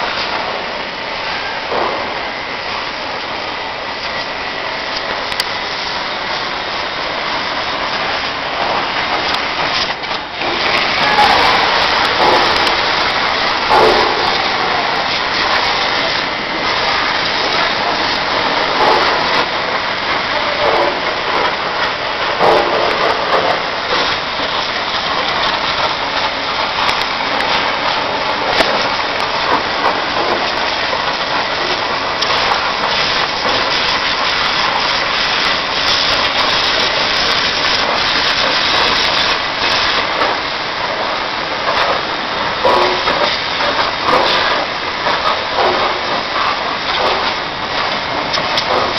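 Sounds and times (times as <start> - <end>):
pressure washer spray hissing: 0.0 - 48.9.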